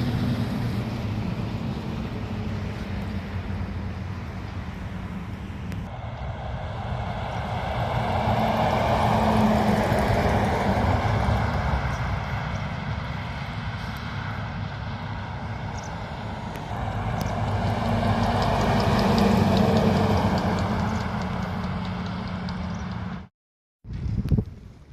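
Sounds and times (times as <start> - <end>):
heavy trucks driving past: 0.0 - 23.3.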